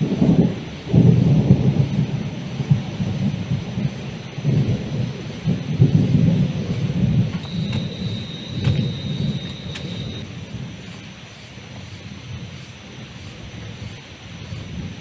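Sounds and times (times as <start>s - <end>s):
heavy rain: 0.0s - 15.0s
thunder rumbling: 0.0s - 15.0s.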